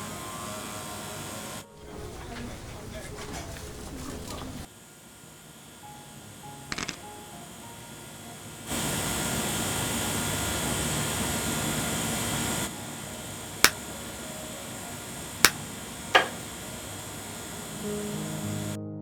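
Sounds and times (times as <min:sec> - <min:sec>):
tool whirring hiss: 0:00.0 - 0:18.8.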